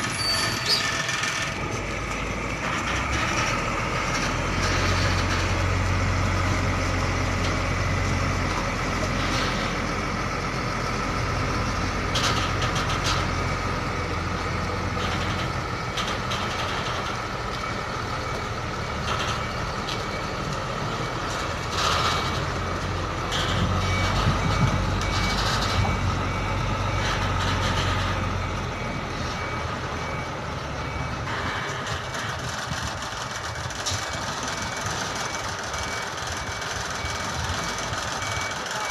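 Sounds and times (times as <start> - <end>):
reversing alarm beeping: 0.0 - 38.9
truck engine running low: 0.0 - 38.9.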